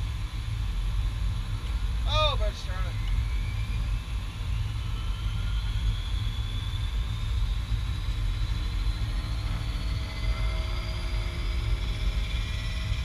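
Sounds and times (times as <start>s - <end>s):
low engine rumble: 0.0s - 13.0s
turboprop engine whine rising: 0.0s - 13.0s.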